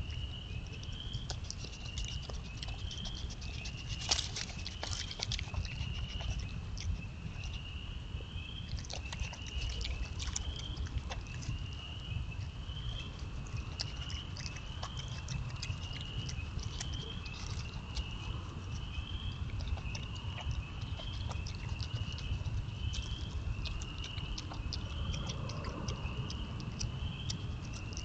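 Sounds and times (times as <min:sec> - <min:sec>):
animal chewing crunchy seeds: 0:00.0 - 0:07.7, 0:08.6 - 0:28.0.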